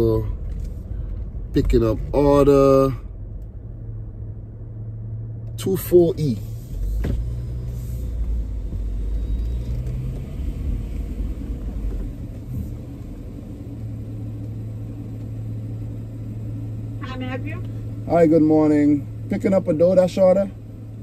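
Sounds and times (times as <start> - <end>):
car engine: 0.0 - 21.0
low road rumble: 0.0 - 21.0.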